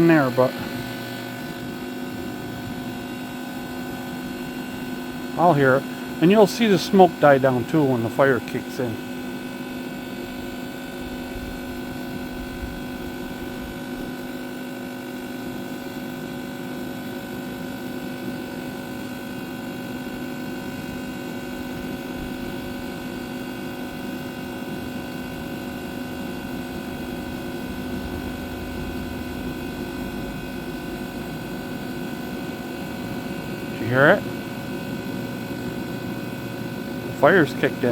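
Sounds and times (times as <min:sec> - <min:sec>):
smoker fan and motor humming: 0:00.0 - 0:37.9.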